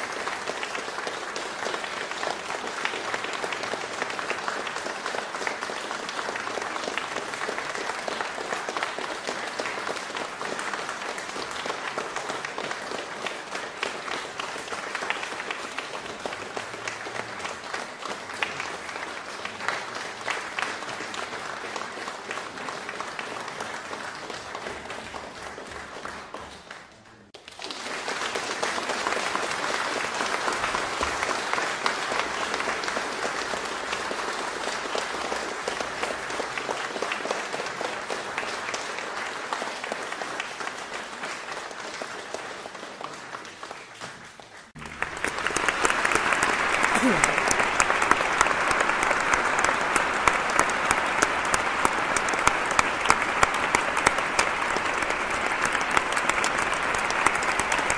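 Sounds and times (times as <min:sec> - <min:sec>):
audience applause: 0:00.0 - 0:57.9.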